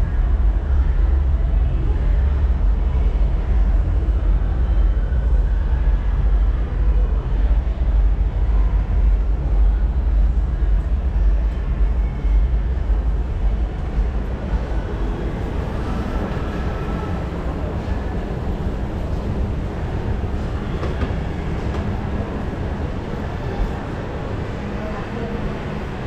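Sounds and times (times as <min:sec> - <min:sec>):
indoor mall background rumble: 0:00.0 - 0:26.0.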